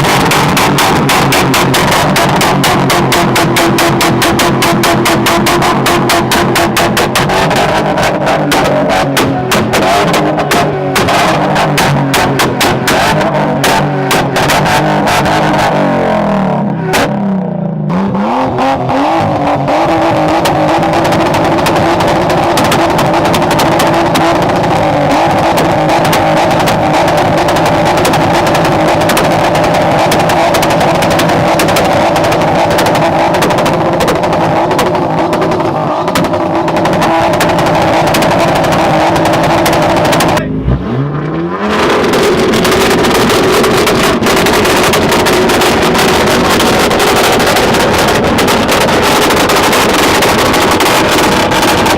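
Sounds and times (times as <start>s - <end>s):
car engine pulling hard: 0.0s - 51.9s.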